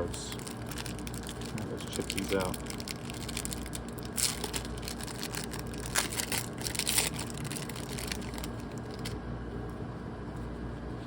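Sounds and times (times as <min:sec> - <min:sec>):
wrapper crinkling as opened: 0:00.3 - 0:09.2.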